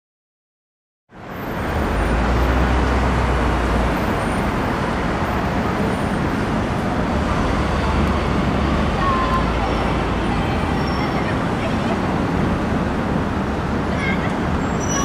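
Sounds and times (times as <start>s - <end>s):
road traffic noise: 1.1s - 15.0s.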